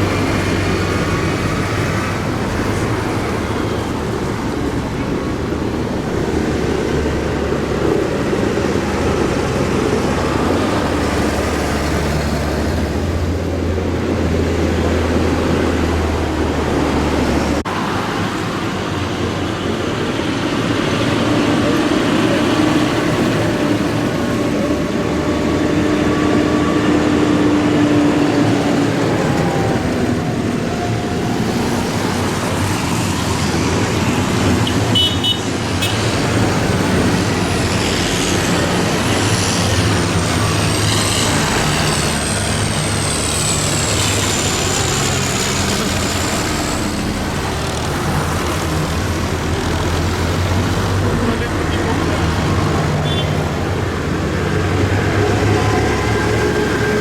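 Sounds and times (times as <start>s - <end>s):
tractors driving past: 0.0s - 57.0s.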